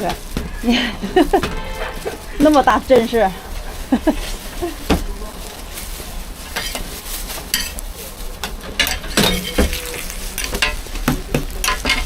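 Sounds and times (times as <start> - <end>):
food sizzling: 0.0 - 12.0
metal utensil scraping and clinking: 0.1 - 12.0.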